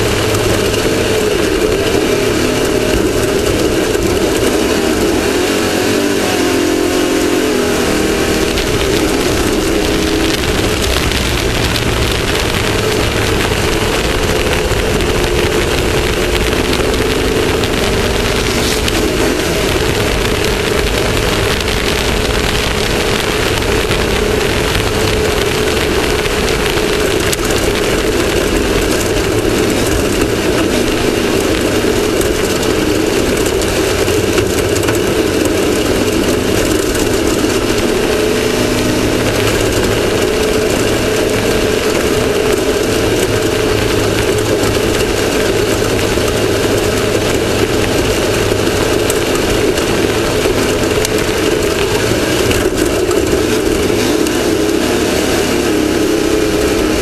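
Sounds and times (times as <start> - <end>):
off-road vehicle engine running: 0.0 - 57.0
wind and driving noise: 0.0 - 57.0.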